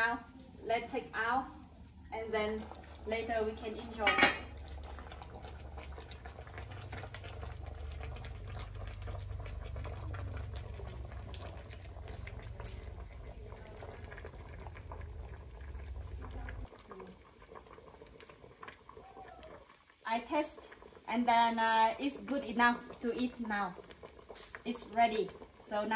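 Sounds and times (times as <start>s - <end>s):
pot bubbling: 0.0s - 25.9s
wood fire crackling: 0.0s - 25.9s.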